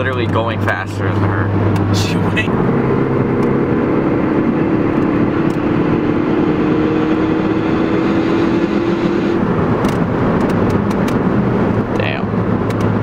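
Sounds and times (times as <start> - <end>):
engine and exhaust drone: 0.0 - 13.0
road and wind noise: 0.0 - 13.0.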